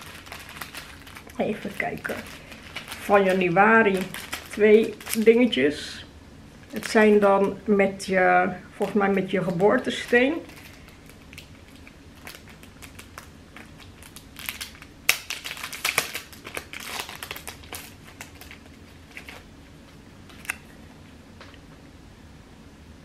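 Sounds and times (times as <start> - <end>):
packaging crinkling: 0.0 - 5.7, 6.6 - 7.7, 8.8 - 20.8.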